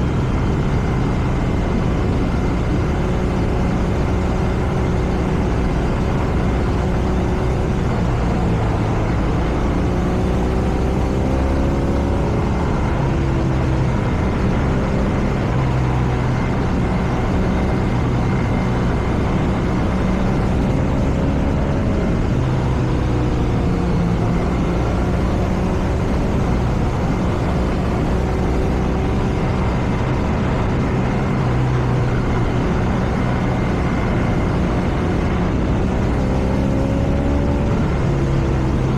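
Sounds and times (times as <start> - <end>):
wind and road noise: 0.0 - 38.9.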